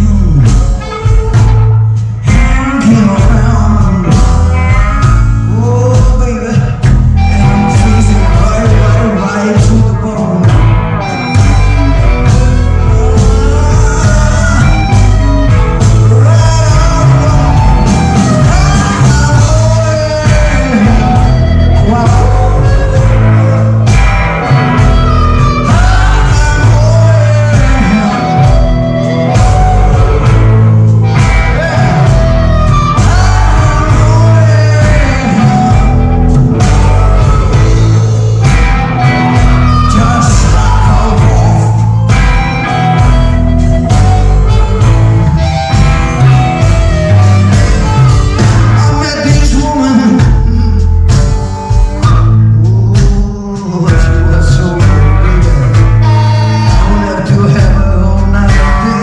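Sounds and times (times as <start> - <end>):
lead vocal singing and shouting: 0.0 - 59.0
live rock band playing: 0.0 - 59.0.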